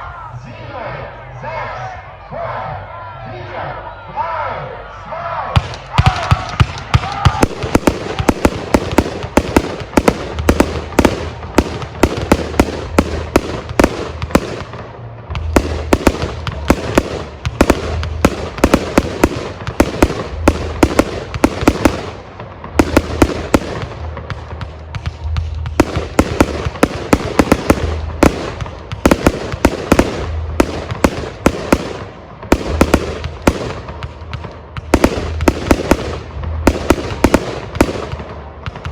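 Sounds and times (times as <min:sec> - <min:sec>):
fireworks bursting with bangs: 0:05.6 - 0:38.9
low rumble: 0:07.5 - 0:38.9.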